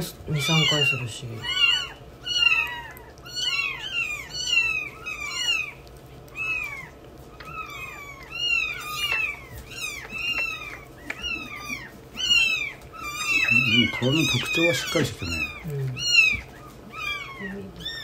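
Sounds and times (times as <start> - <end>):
newborn kittens mewing: 0.0 - 18.0.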